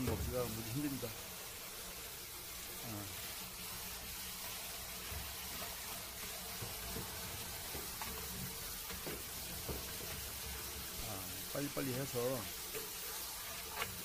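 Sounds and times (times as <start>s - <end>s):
tap water running into colander: 0.0s - 14.0s.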